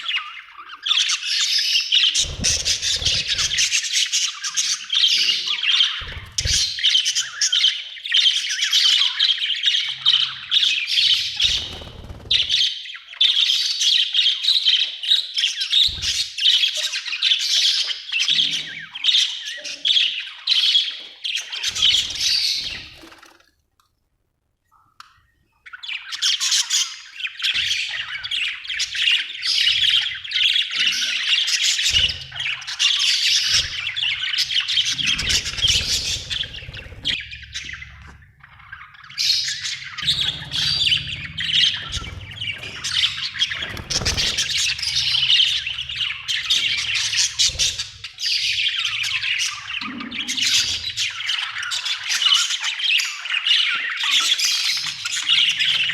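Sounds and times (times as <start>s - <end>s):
budgerigars chattering and chirping: 0.0s - 23.1s, 25.7s - 55.9s.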